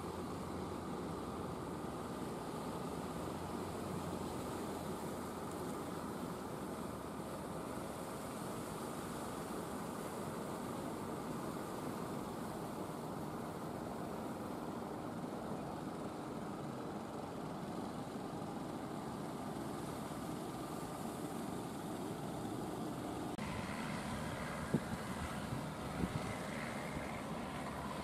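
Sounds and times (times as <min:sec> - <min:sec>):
boat engines droning: 0:00.0 - 0:28.0.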